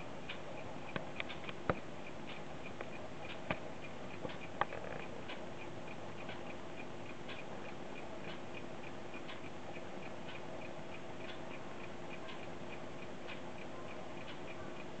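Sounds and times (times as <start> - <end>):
record surface hiss: 0.0 - 15.0
stylus clicks and ticks: 0.2 - 15.0.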